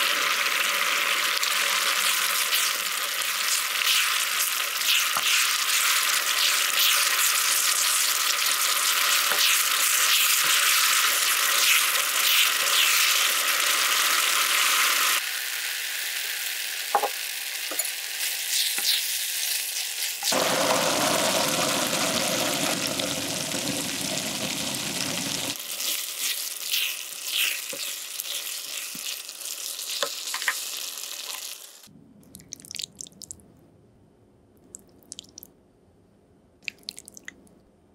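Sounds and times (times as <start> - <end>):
sauce sizzling in a frying pan: 0.0 - 31.9.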